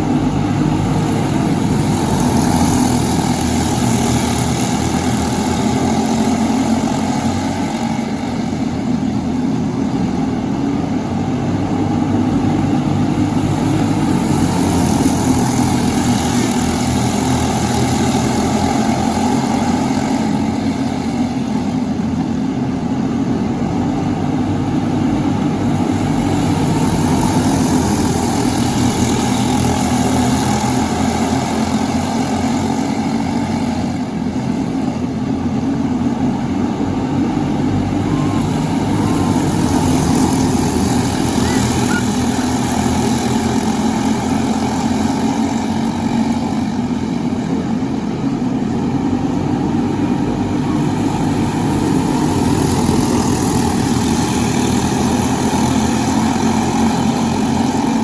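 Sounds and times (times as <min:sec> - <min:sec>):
kart engines droning: 0:00.0 - 0:58.0.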